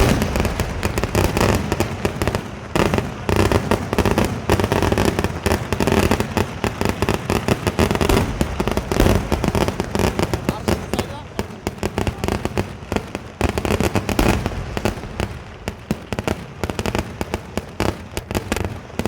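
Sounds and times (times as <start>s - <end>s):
firecracker bangs: 0.0s - 19.0s.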